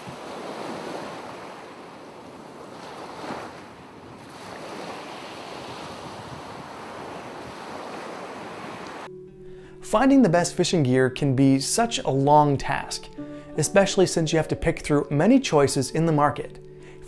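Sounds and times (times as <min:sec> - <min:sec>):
ocean waves washing: 0:00.0 - 0:14.4.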